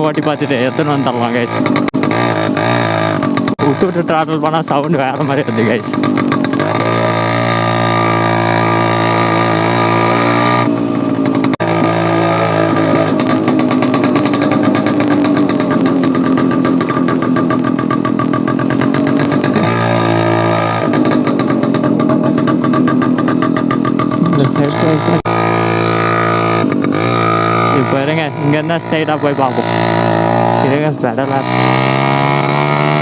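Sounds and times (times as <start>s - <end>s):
moped engine with open exhaust: 0.0s - 33.0s.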